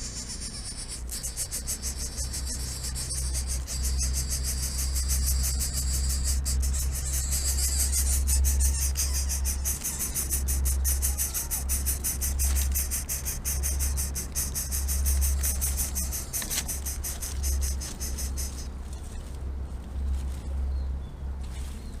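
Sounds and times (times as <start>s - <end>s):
insects chirring: 0.0s - 19.1s
steady low rumble: 0.0s - 22.0s.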